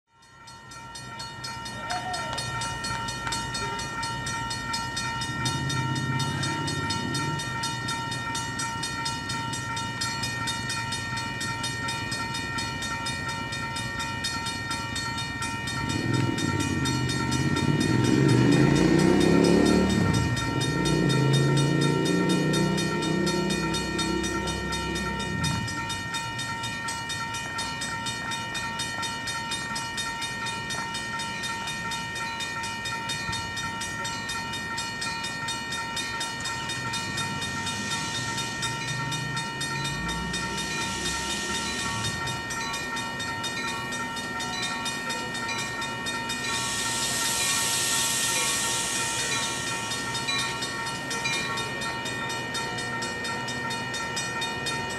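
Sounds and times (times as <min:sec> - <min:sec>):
crossing bell ringing: 0:00.1 - 0:54.9.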